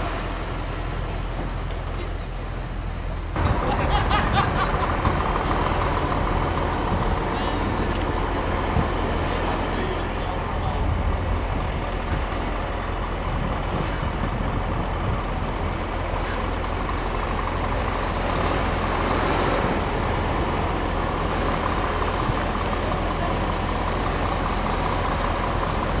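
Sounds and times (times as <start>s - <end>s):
road noise: 0.0s - 26.0s
truck engine running: 0.0s - 26.0s.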